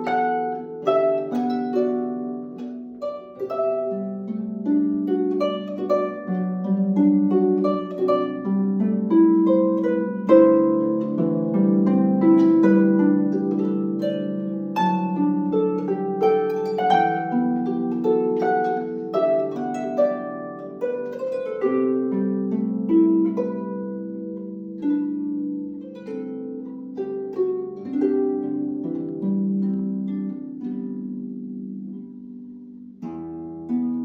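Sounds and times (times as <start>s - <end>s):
harp melody: 0.0s - 34.0s.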